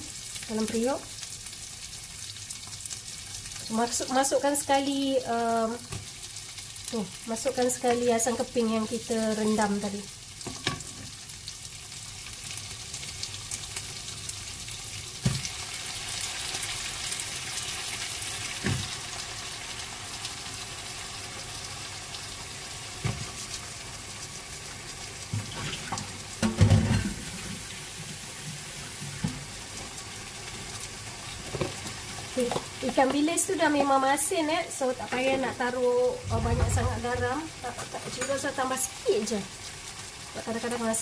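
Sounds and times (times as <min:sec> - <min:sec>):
okra sizzling in oil: 0:00.0 - 0:41.0.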